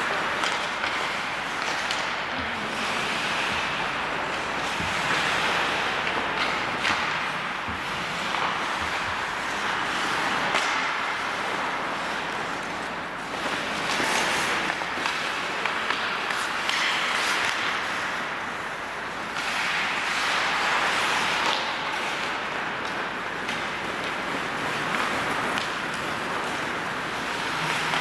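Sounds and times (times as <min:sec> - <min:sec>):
hockey sticks and puck clacking: 0:00.0 - 0:28.0
skate blades scraping on ice: 0:00.0 - 0:28.0.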